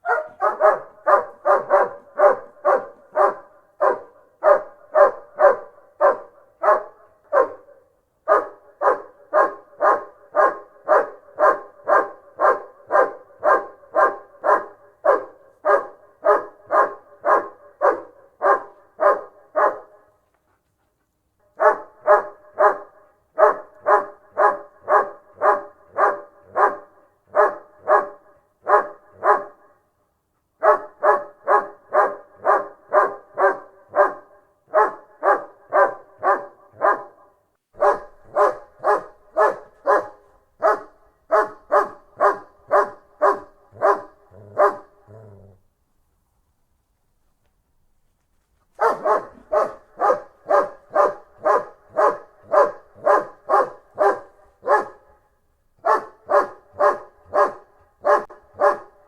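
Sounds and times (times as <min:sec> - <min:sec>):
dog barking: 0:00.0 - 0:20.2, 0:21.4 - 0:29.8, 0:30.6 - 0:45.4, 0:48.8 - 0:59.0.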